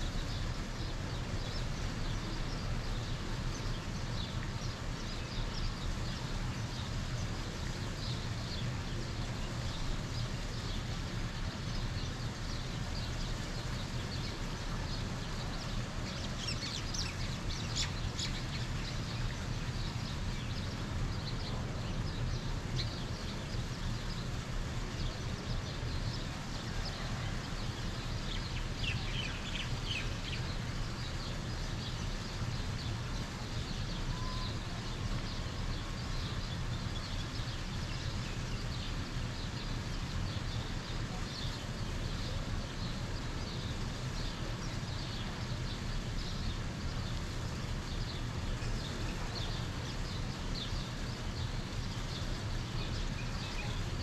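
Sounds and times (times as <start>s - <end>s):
birds chirping: 0.3s - 54.0s.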